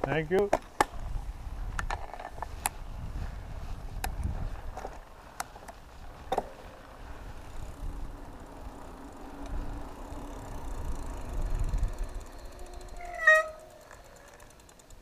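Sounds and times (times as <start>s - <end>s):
bike clicks and rattles: 0.0s - 15.0s
tyre noise on asphalt: 0.0s - 15.0s
wind rumble on microphone: 0.9s - 13.4s.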